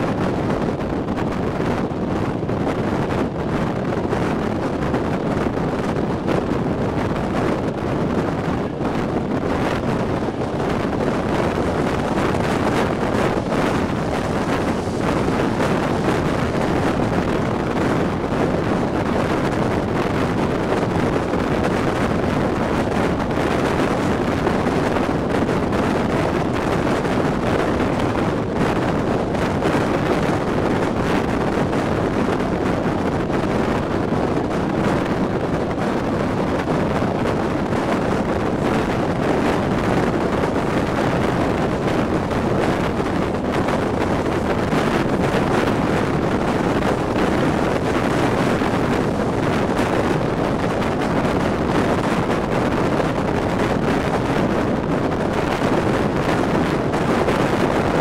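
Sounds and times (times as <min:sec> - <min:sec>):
train track noise: 0:00.0 - 0:58.0
wind buffeting microphone: 0:00.0 - 0:58.0.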